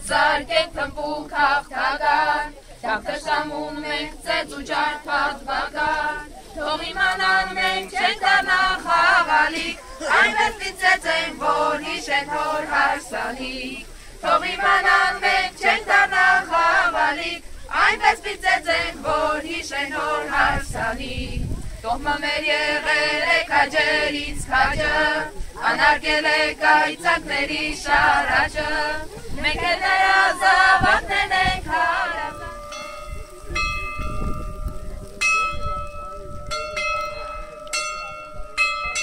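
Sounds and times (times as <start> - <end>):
children singing: 0.0 - 21.3, 21.9 - 32.7.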